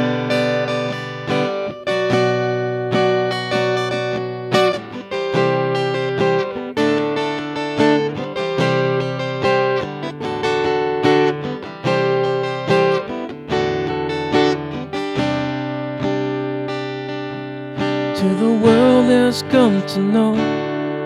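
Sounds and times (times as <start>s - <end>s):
synth guitar strumming chords: 0.0s - 21.0s.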